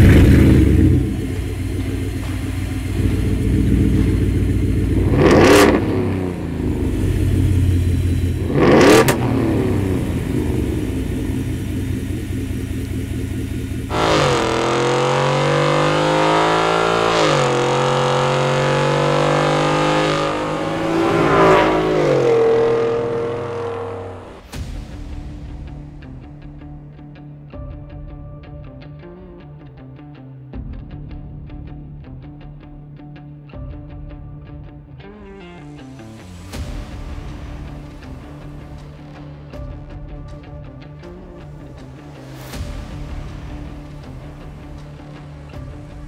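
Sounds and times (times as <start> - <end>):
engine exhaust idling and revving: 0.0 - 26.8, 35.8 - 46.0.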